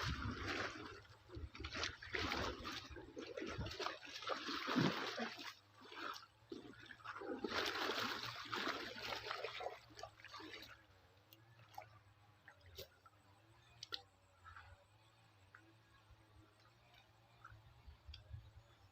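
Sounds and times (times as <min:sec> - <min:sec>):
water splashing and sloshing: 0:00.0 - 0:18.9.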